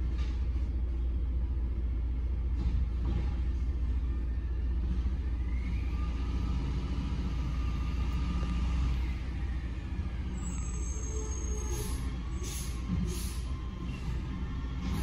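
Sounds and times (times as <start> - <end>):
truck engine rumble: 0.0 - 15.0
truck engine revving whine: 2.9 - 15.0.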